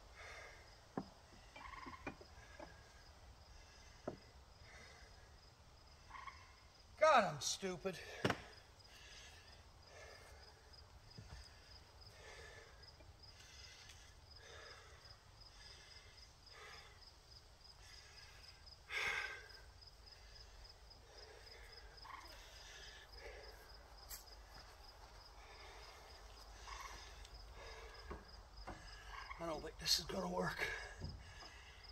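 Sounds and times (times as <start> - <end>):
insect chirping trill: 0.2 - 7.0, 8.5 - 31.9
person breathing softly: 2.3 - 6.6, 8.0 - 29.4, 30.6 - 31.9.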